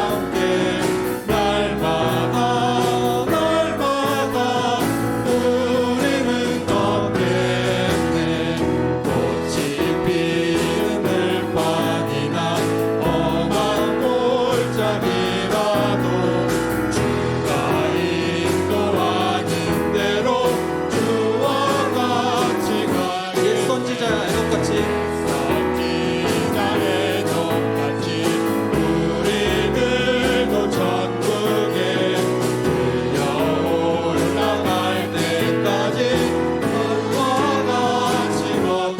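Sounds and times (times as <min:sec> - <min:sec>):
group singing gospel song: 0:00.0 - 0:38.9
instrumental accompaniment with beat: 0:00.0 - 0:38.9.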